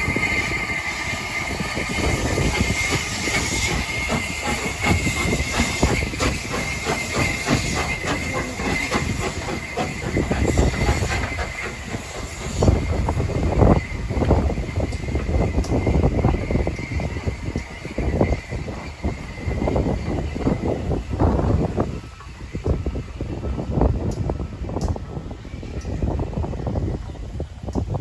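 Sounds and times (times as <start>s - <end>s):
high wheel squeal: 0.0s - 23.2s
train low rumble: 0.0s - 28.0s
train wheels clicking on rails: 0.0s - 28.0s.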